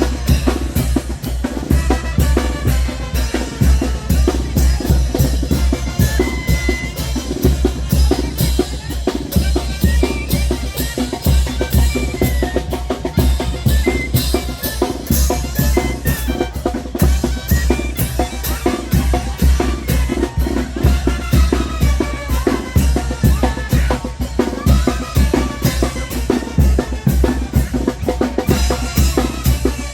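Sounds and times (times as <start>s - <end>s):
fast brass band music with drums: 0.0s - 29.9s.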